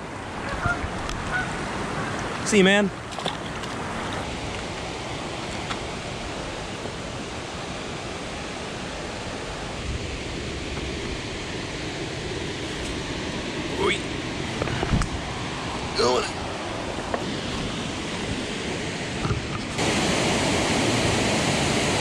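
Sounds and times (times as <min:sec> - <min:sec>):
fast-flowing river water: 0:00.0 - 0:22.0.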